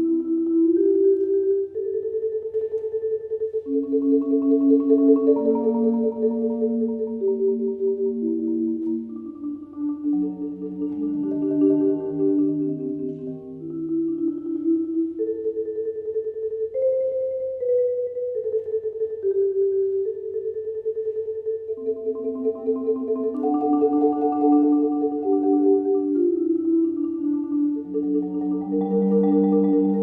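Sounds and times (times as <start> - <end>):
slow instrumental music: 0.0 - 30.0.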